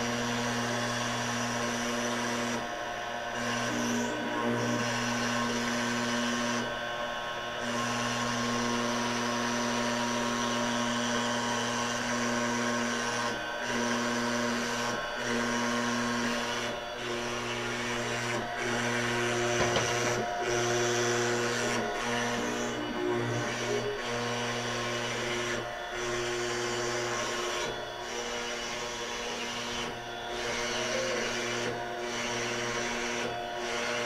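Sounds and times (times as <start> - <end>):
cnc router cutting: 0.0 - 34.0.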